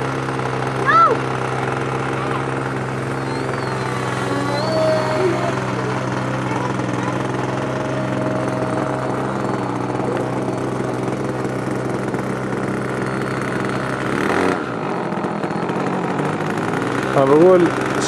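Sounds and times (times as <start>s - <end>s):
motor drone humming: 0.0s - 18.0s.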